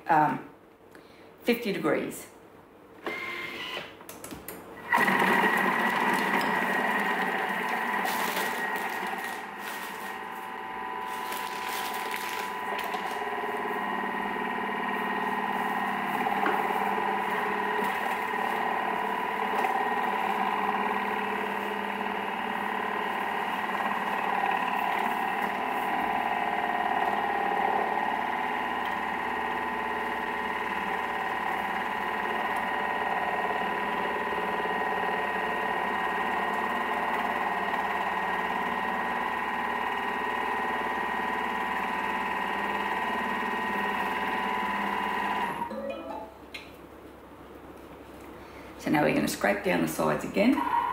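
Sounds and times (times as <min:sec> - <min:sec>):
kitchen machine motor whine: 0:03.0 - 0:04.0, 0:04.8 - 0:46.5, 0:48.6 - 0:50.9.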